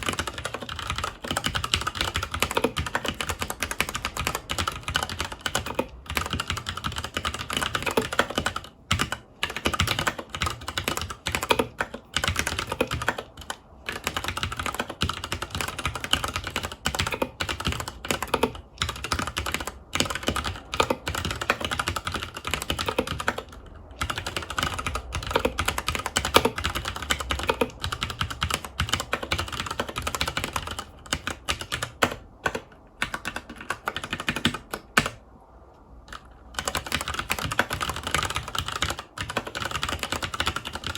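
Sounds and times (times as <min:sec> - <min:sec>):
fast typing on mechanical keyboard: 0:00.0 - 0:35.2, 0:36.0 - 0:40.9.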